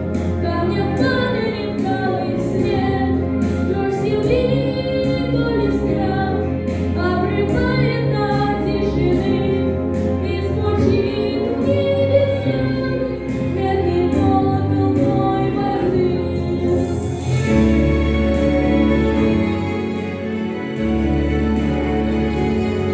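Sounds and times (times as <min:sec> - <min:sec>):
instrumental accompaniment with bass: 0:00.0 - 0:22.9.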